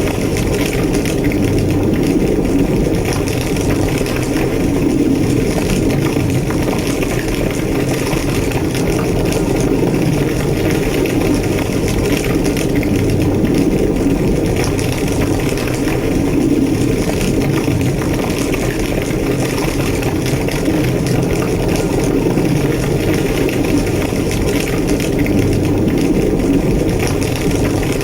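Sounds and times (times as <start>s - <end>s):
fire crackling: 0.0s - 28.0s
fire roaring: 0.0s - 28.0s.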